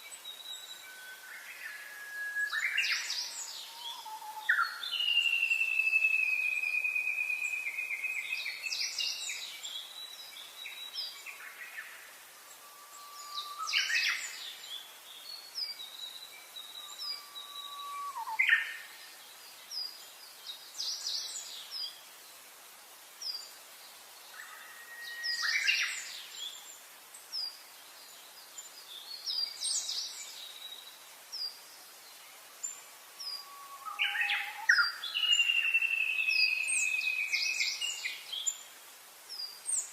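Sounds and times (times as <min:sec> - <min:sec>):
birds singing whistled notes: 0:00.0 - 0:22.0, 0:24.2 - 0:39.9
light steady hiss: 0:00.0 - 0:39.9.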